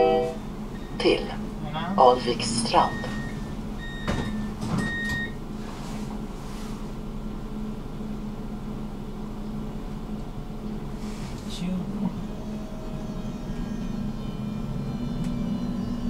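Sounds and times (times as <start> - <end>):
tram electrical hum: 0.0 - 16.0.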